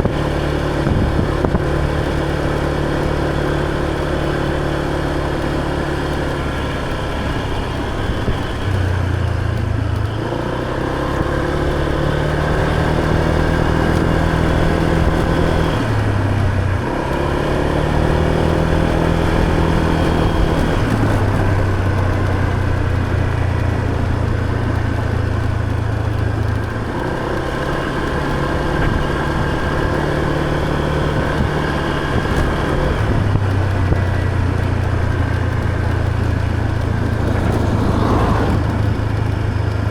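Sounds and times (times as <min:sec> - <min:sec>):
motor scooter engine: 0:00.0 - 0:39.9.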